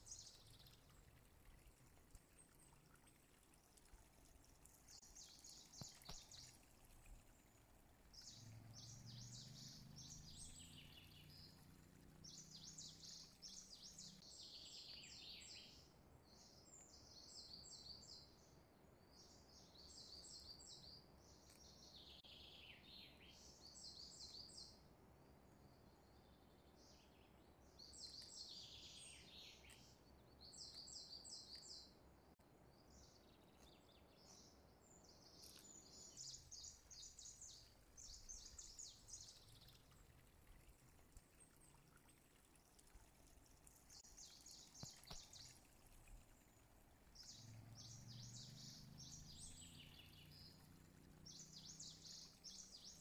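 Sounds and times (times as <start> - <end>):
faint bird chirping: 0.0 - 53.0.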